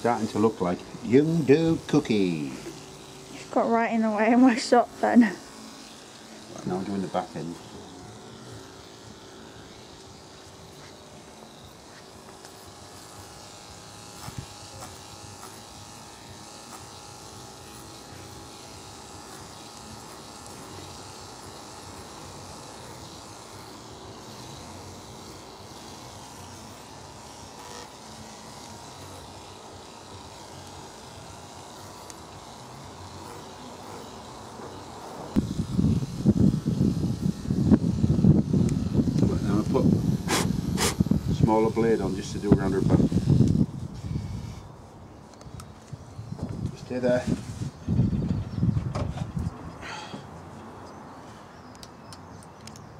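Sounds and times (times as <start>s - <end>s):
electric pet clippers buzzing: 0.0s - 50.0s.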